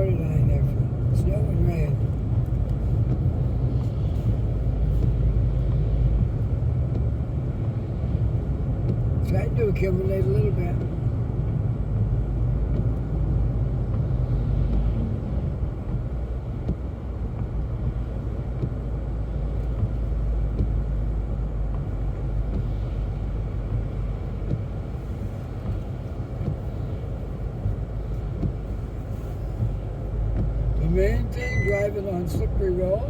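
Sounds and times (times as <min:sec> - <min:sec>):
car interior engine rumble: 0:00.0 - 0:33.0.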